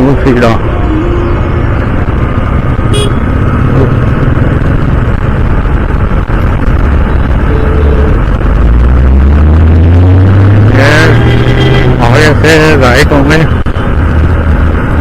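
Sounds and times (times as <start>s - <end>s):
city traffic: 0.0s - 15.0s.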